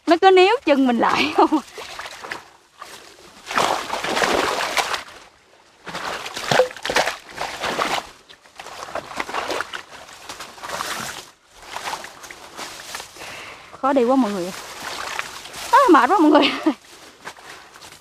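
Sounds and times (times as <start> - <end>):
water plants rustling: 0.1 - 18.0
water sloshing: 0.7 - 13.2, 14.1 - 18.0.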